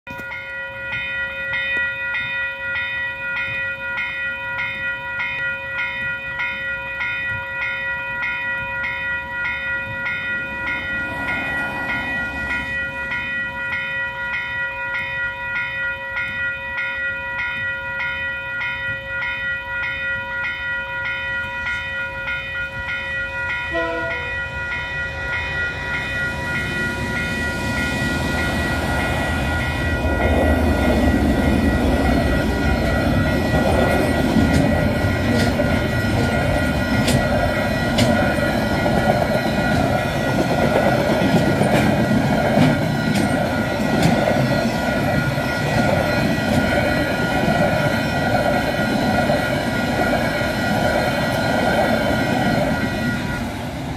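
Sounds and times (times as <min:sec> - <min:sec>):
approaching train: 0:00.0 - 0:53.9
level crossing bell ringing: 0:00.1 - 0:53.8.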